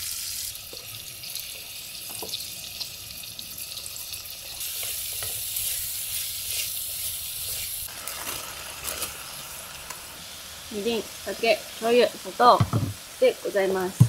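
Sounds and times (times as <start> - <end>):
meat and oil sizzling in a pot: 0.0 - 14.0.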